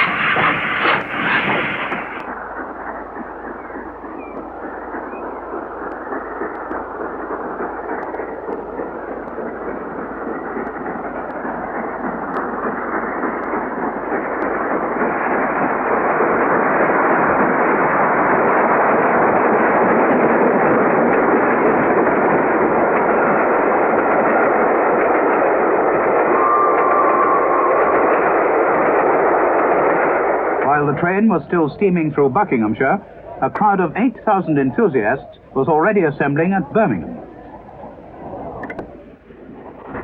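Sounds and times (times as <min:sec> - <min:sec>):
steam locomotive hauling train: 0:00.0 - 0:40.0.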